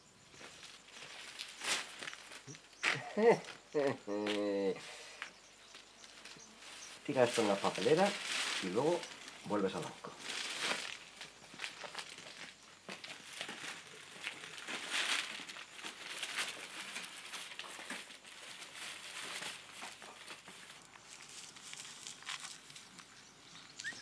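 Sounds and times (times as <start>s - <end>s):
paper crinkling and rustling: 0.6s - 2.7s, 5.7s - 23.1s.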